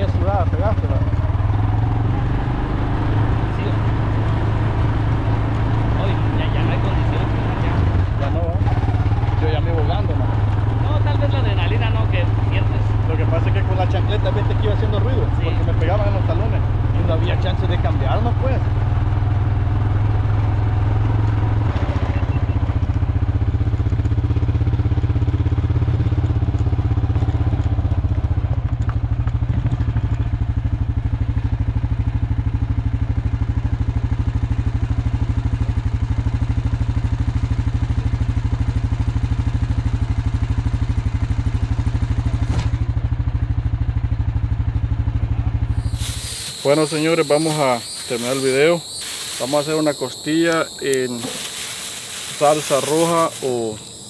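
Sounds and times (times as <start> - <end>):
four-wheeler engine running: 0.0 - 54.0.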